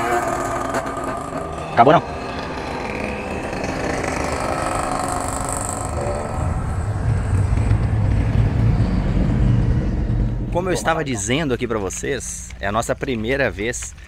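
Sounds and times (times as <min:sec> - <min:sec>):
motorcycles riding past: 0:00.0 - 0:11.6.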